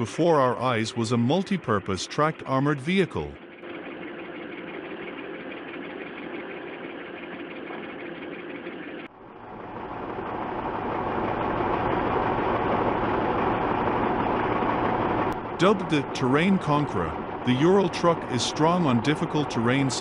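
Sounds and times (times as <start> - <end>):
heavy vehicle engine running: 0.0 - 20.0
rough engine under load: 0.0 - 20.0.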